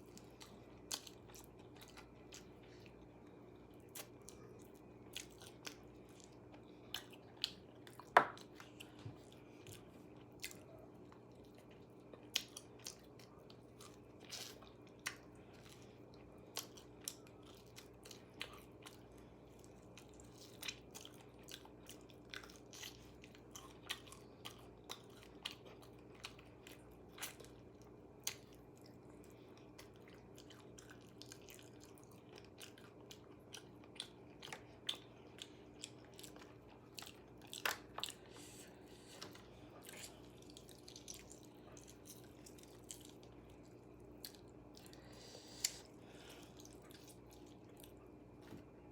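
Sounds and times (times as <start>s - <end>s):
person crunching and chewing food: 0.0s - 48.5s
faint steady hum: 0.0s - 48.9s.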